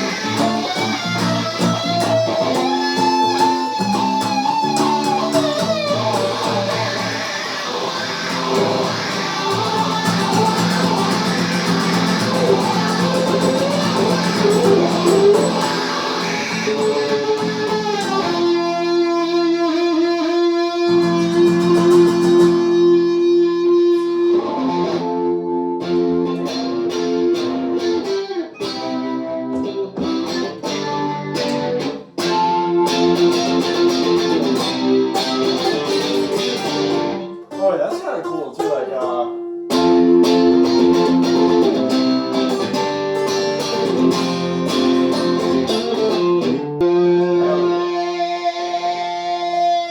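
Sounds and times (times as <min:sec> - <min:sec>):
guitar playing: 0:00.0 - 0:49.9.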